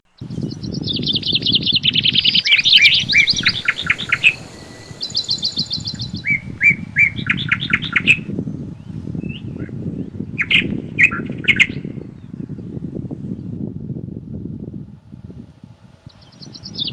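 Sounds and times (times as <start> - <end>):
songbirds singing in trills: 0.1 - 13.8, 15.7 - 16.9
wind rushing: 0.1 - 16.9.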